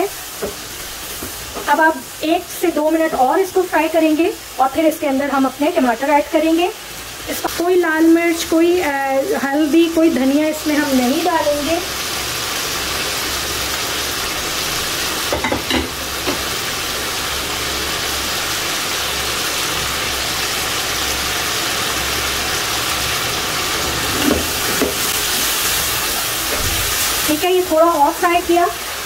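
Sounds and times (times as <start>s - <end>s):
chicken sizzling in oil: 0.0s - 29.0s.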